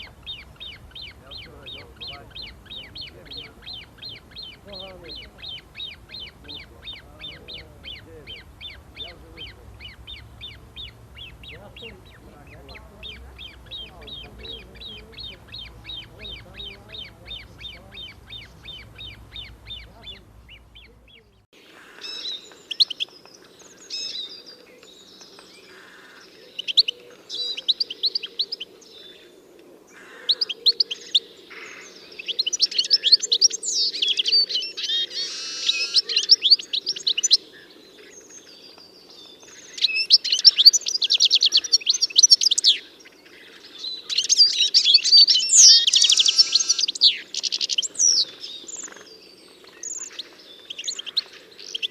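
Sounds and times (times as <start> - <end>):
bird chirping and trilling: 0.0 - 29.3, 30.0 - 51.9.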